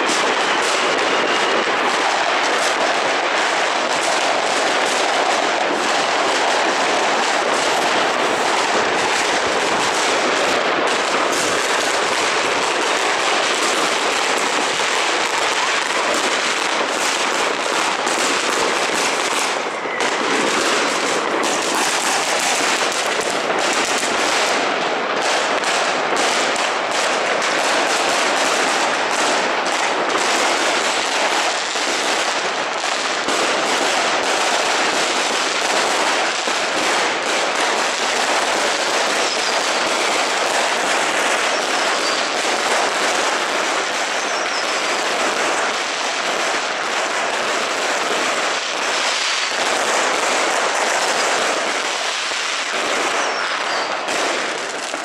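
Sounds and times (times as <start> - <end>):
fireworks and firecrackers: 0.0 - 55.0.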